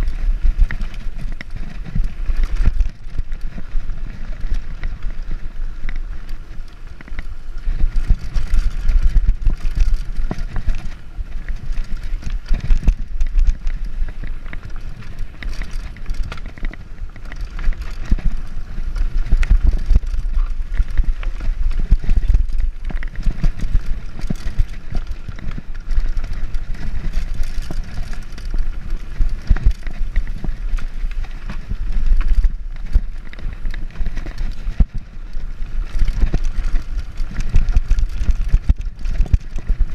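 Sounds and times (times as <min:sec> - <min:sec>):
bike rattling and knocking: 0:00.0 - 0:39.9
tyres on dirt and stones: 0:00.0 - 0:39.9.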